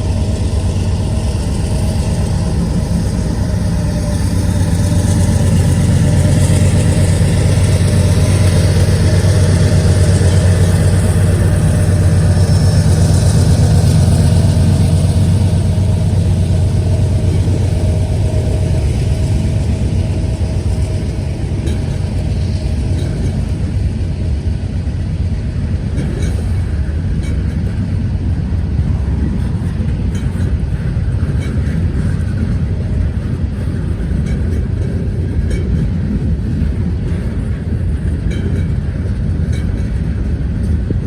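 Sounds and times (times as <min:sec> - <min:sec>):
diesel locomotives droning: 0:00.0 - 0:41.0.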